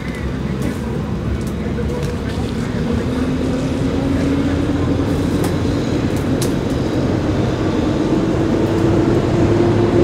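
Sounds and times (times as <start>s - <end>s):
engine running with low hum: 0.0s - 10.0s.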